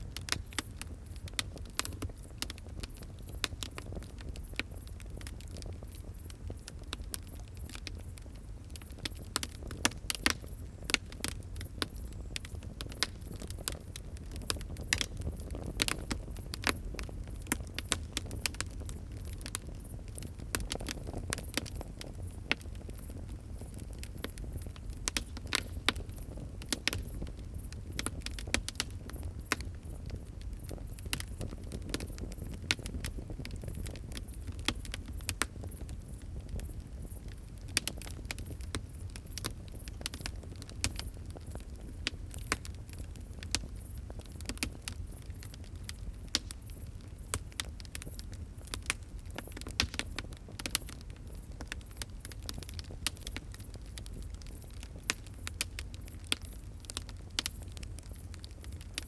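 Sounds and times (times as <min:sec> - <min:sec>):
fire crackling and popping: 0:00.0 - 0:59.0
low rumble of fire: 0:00.0 - 0:59.0.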